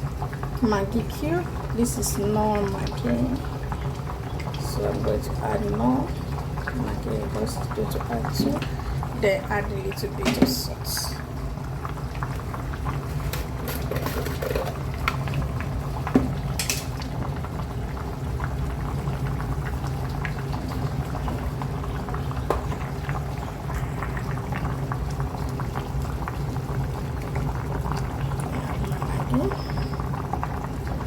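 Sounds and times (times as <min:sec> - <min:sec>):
stock boiling in a pot: 0:00.0 - 0:31.0.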